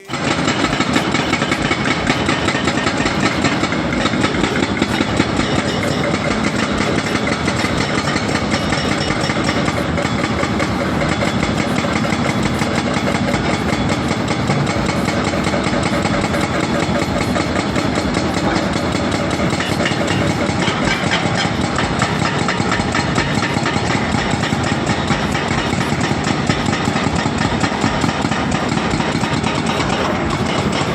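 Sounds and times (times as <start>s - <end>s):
diesel engines running: 0.0s - 30.9s
hydraulic rock breakers hammering: 0.0s - 30.9s.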